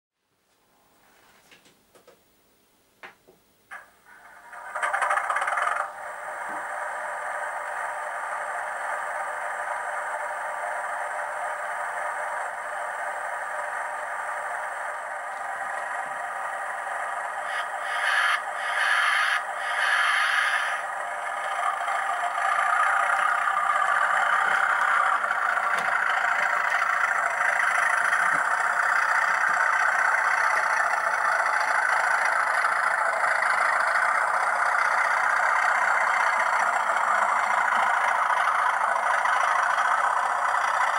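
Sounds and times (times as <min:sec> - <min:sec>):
diesel engine through small speaker: 0:03.7 - 0:40.9.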